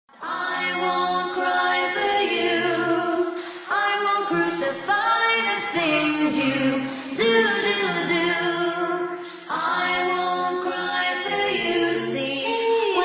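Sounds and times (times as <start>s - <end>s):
voices singing in harmony: 0.1s - 13.0s.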